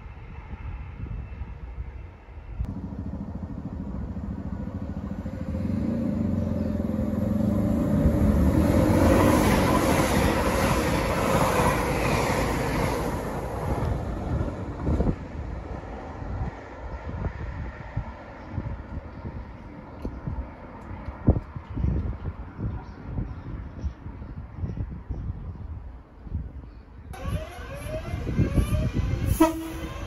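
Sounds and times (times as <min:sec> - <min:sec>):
train engine hum: 0:00.0 - 0:23.4, 0:25.9 - 0:30.0
wheel and rail rumble: 0:00.1 - 0:24.0, 0:27.2 - 0:30.0.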